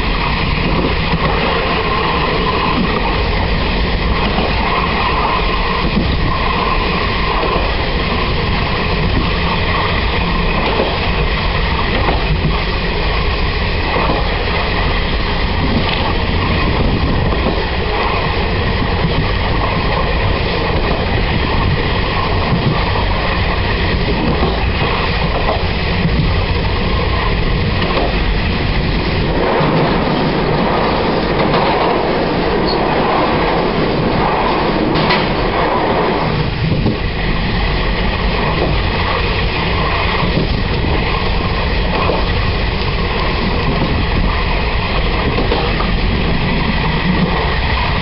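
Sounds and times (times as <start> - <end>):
train wheels rumbling: 0.0 - 48.0.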